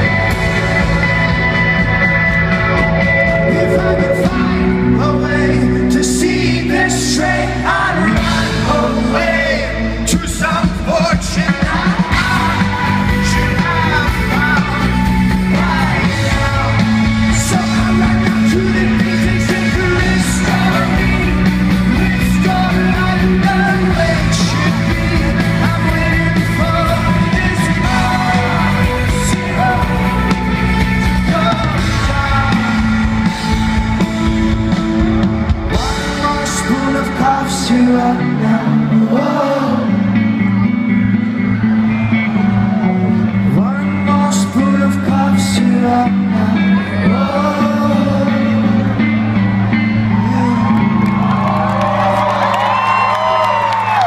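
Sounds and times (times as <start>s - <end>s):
held bass notes: 0.0s - 54.0s
live rock band playing: 0.0s - 54.0s
singer's voice: 0.0s - 54.0s.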